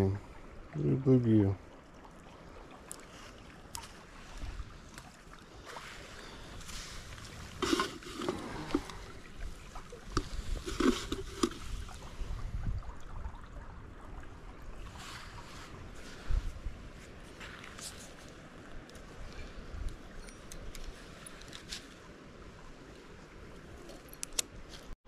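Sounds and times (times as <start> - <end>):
creek water running over shallows: 0.0 - 25.0.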